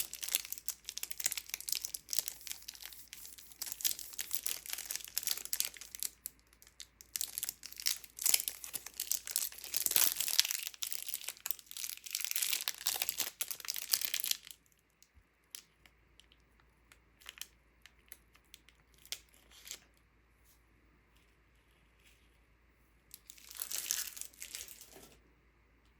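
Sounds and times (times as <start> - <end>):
candy wrapper crinkling: 0.0 - 14.9, 15.5 - 19.9, 23.1 - 24.9.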